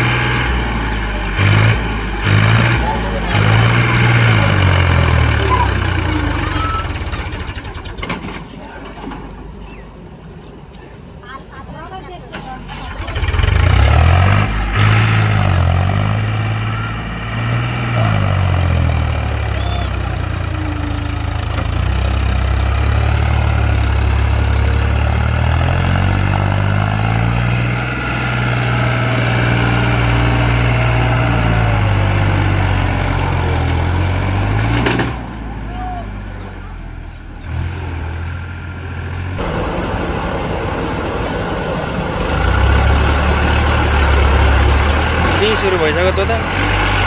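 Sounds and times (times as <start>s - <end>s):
heavy diesel engine revving: 0.0s - 8.4s, 12.6s - 47.0s.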